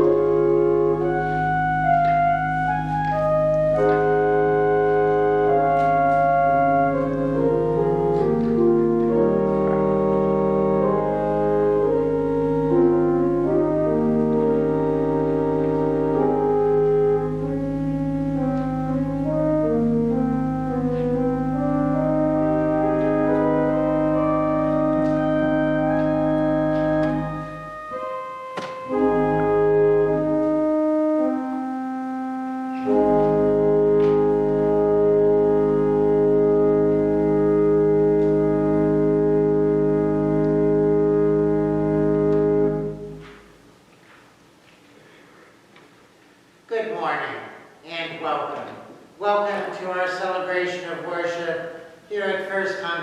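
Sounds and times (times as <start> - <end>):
organ playing slow chords: 0.0 - 46.7.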